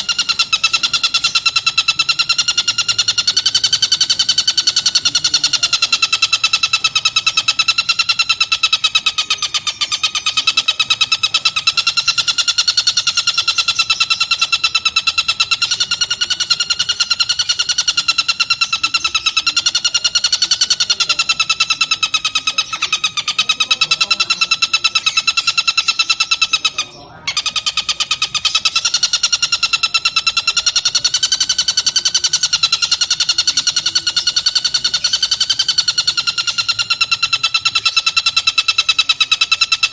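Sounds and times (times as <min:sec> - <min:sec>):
kingfisher rattling call: 0:00.0 - 0:39.9.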